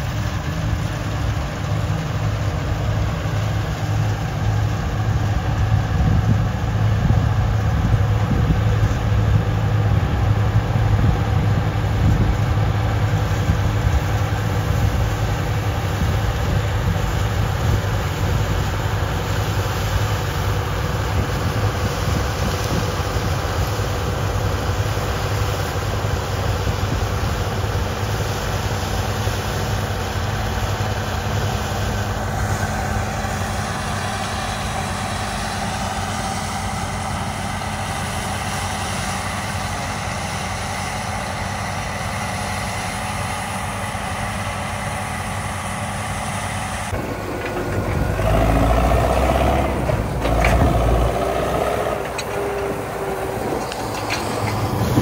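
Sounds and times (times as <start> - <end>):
combine harvester drone: 0.0 - 55.0
deep tractor engine close up: 0.0 - 55.0.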